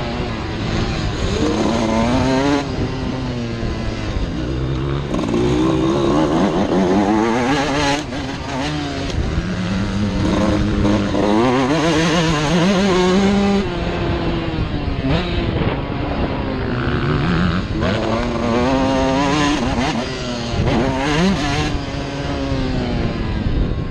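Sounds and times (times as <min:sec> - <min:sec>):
two-stroke motorcycle engine revving: 0:00.0 - 0:23.9.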